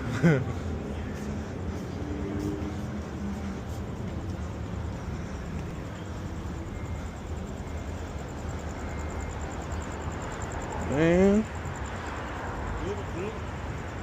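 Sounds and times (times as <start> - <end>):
outdoor hum: 0.0 - 14.0
passing traffic rumble: 0.0 - 14.0.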